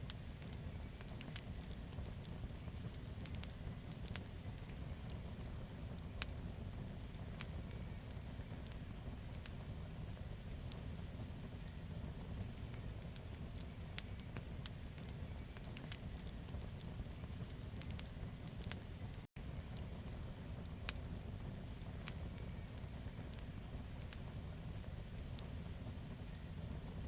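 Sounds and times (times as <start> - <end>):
burning wood crackling: 0.0 - 27.0
campfire flames rumbling: 0.0 - 27.0.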